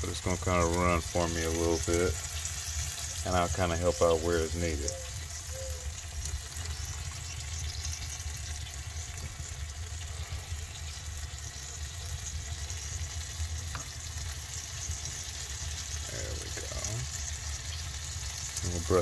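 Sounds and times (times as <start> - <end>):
smoker sizzling and crackling: 0.0 - 19.0.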